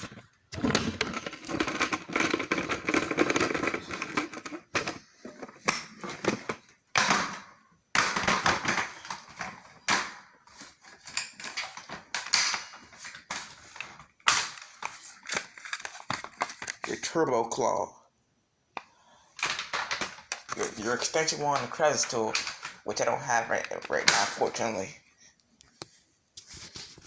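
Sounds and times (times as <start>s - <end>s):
plastic vacuum parts clicking and rattling: 0.0s - 17.2s, 19.4s - 25.0s.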